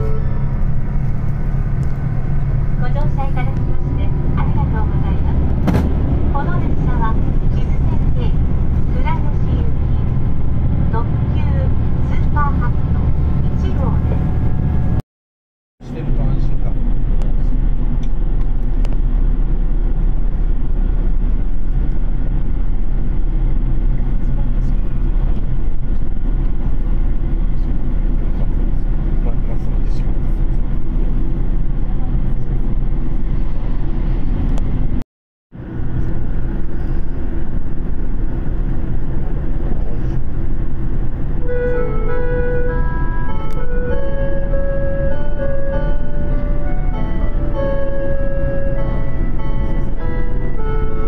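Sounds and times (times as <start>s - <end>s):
train rumbling at speed: 0.0s - 15.0s, 15.8s - 51.0s.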